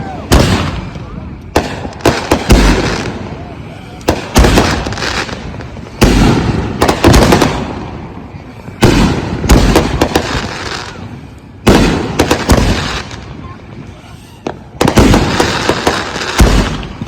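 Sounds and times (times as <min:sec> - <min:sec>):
firework booms echoing: 0:00.0 - 0:13.5, 0:14.4 - 0:17.0.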